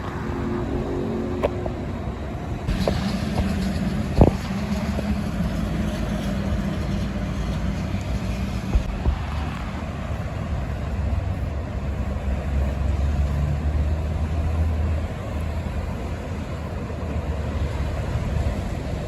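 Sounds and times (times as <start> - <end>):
highway traffic noise: 0.0 - 19.0
truck engine drone: 0.0 - 19.0.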